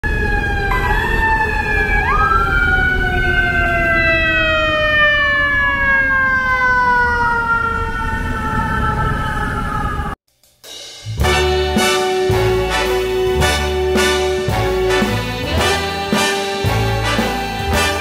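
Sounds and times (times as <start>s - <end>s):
city traffic rumble: 0.0s - 10.2s, 11.1s - 18.0s
fire engine siren wailing: 0.0s - 10.2s, 11.2s - 18.0s.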